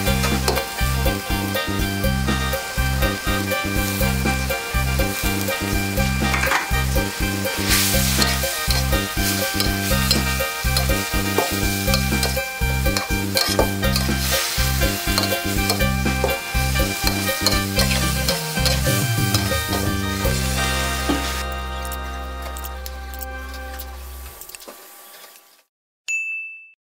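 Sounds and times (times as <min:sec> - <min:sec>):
metal spatula scraping a wok: 0:00.0 - 0:01.7, 0:02.3 - 0:23.8
food sizzling: 0:00.0 - 0:25.7.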